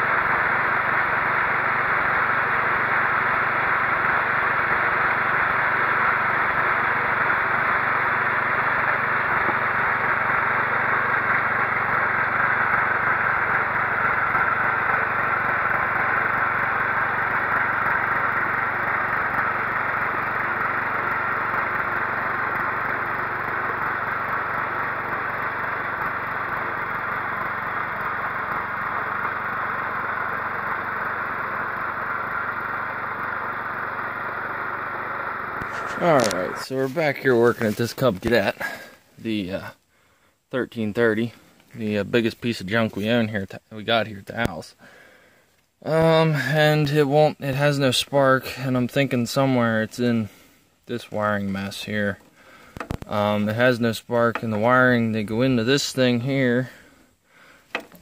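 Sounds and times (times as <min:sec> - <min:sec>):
riding lawn mower engine: 0:00.0 - 0:58.0.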